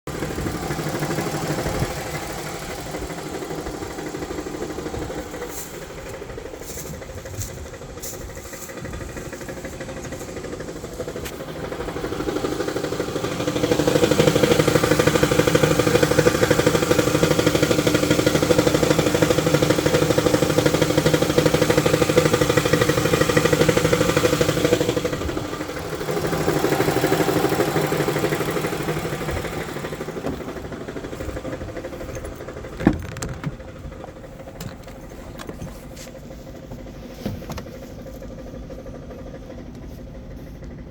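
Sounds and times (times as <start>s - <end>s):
van engine running: 0.0s - 40.9s.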